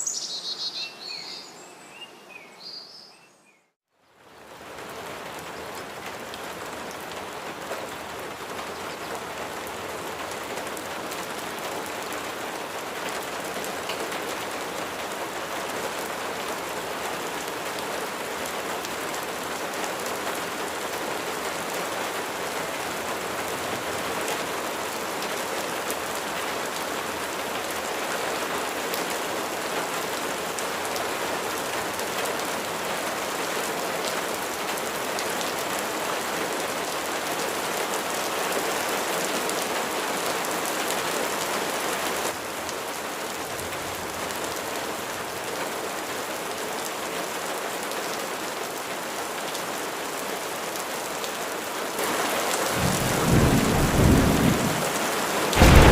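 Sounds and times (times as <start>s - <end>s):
steady rain falling: 4.0s - 55.9s.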